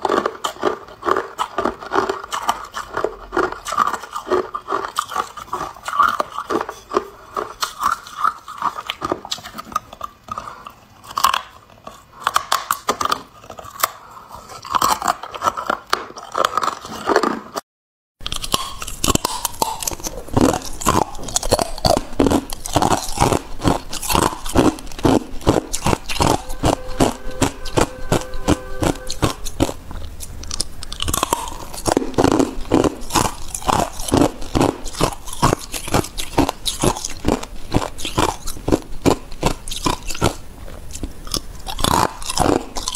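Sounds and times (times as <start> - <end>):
ice being chewed: 0.0 - 17.6, 18.2 - 42.9.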